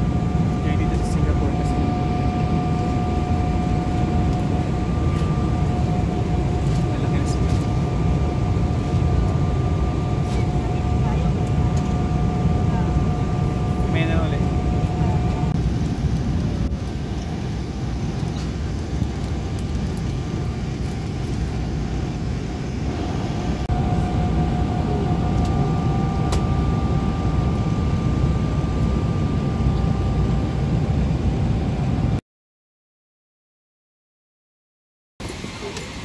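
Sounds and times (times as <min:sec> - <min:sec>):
airliner engine roar: 0:00.0 - 0:32.2, 0:35.2 - 0:36.0
faint steady whine: 0:00.0 - 0:32.2.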